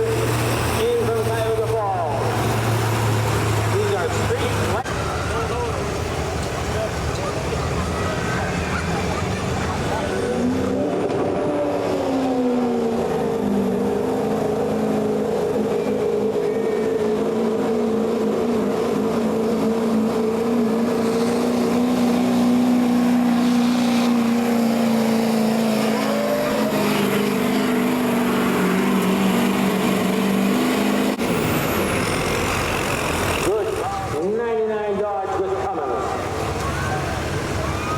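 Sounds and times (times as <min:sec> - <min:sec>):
engine running at high revs: 0:00.0 - 0:34.2.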